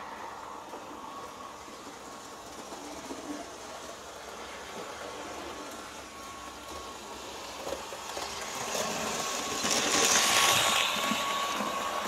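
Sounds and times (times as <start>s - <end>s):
faint steady whine: 0.0s - 12.0s
model train wheels and motor whirring: 0.0s - 12.0s.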